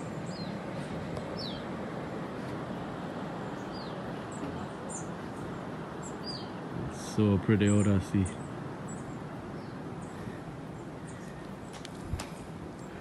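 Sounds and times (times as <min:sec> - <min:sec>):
small birds chirping: 0:00.0 - 0:01.8, 0:03.0 - 0:13.0
rushing outdoor noise: 0:00.0 - 0:13.0.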